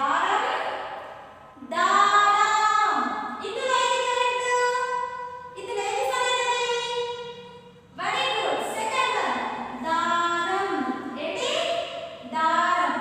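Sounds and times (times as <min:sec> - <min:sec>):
woman chanting: 0:01.5 - 0:07.2, 0:08.0 - 0:13.0.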